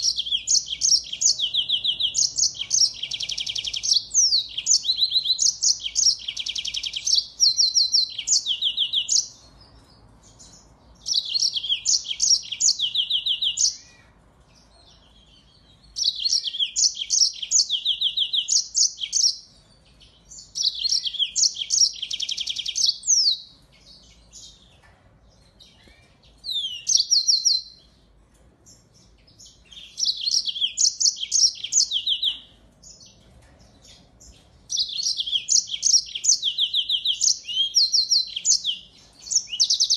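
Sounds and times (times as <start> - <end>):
songbird singing trills: 0.0 - 28.0, 28.6 - 39.9.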